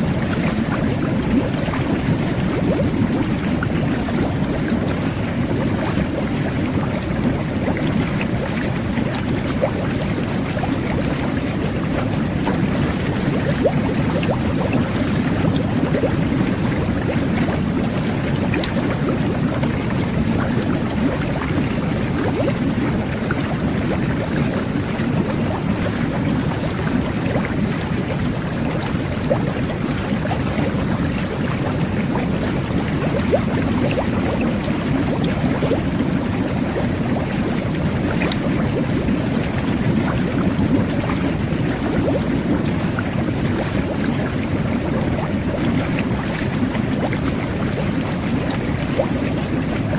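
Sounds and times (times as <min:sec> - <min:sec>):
bubbles popping: 0:00.0 - 0:49.9
water churning and bubbling: 0:00.0 - 0:49.9.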